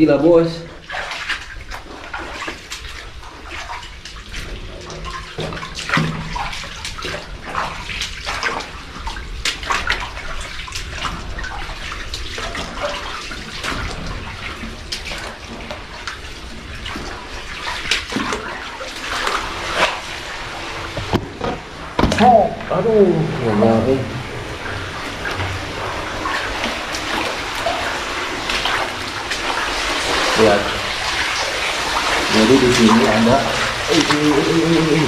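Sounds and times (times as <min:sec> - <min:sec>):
steady watery wash: 0:00.0 - 0:35.0
water splashing and sloshing: 0:00.0 - 0:35.0.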